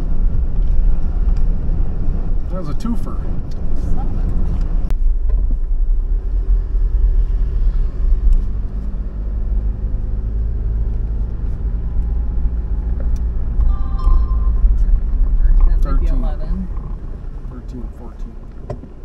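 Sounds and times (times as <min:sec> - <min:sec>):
engine hum: 0:00.0 - 0:19.0
tyres rumbling on rough dirt road: 0:00.0 - 0:19.0.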